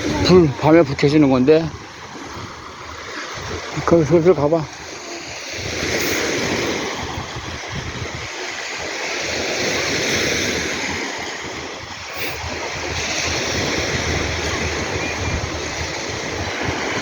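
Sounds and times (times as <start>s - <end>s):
sea waves washing onto shore: 0.0s - 17.0s
wind buffeting microphone: 0.0s - 17.0s.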